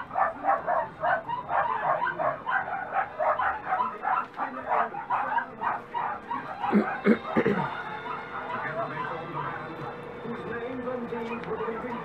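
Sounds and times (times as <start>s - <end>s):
puppies yipping: 0.0s - 10.1s, 11.2s - 12.0s.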